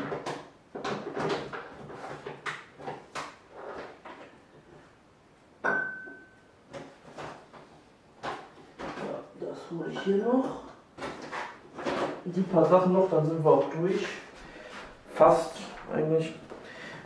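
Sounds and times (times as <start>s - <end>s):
clattering and rustling handling: 0.0s - 5.0s, 6.6s - 17.0s.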